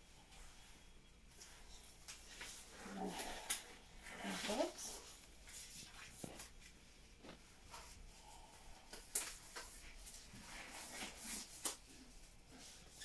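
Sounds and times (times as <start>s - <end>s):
gown and gloves rustling: 0.0s - 13.0s.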